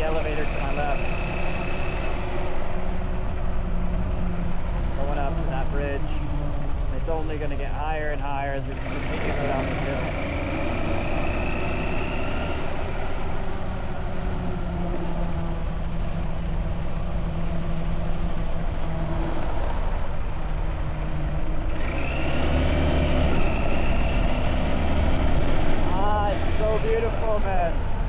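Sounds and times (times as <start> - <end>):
motorbike engine running: 0.0 - 28.0
road and wind rumble: 0.0 - 28.0.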